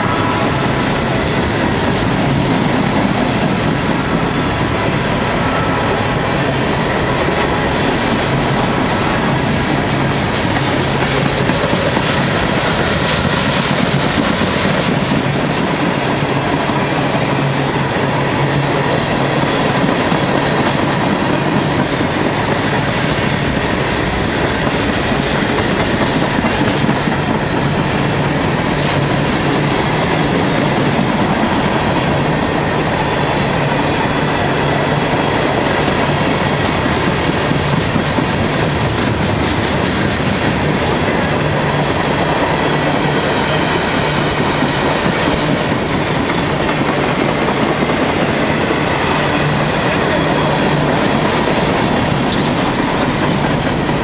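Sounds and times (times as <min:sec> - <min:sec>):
freight train rumble: 0:00.0 - 0:54.0.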